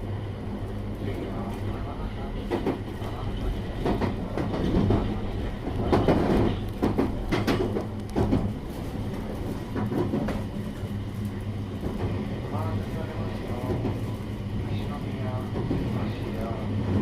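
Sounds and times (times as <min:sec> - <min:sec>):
train wheel noise: 0:00.0 - 0:17.0.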